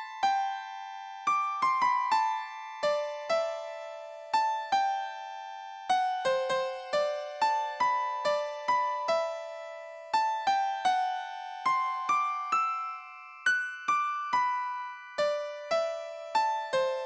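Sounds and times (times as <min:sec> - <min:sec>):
simple keyboard melody: 0:00.0 - 0:17.0.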